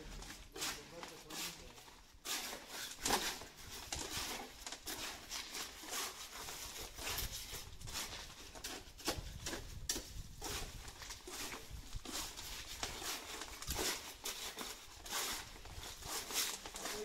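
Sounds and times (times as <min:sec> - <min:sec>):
trowels scraping wet concrete: 0:00.0 - 0:17.0.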